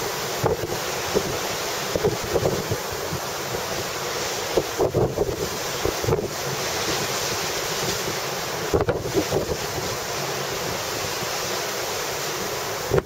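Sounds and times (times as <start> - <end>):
wind buffeting microphone: 0.0 - 11.4
sea: 0.0 - 13.0.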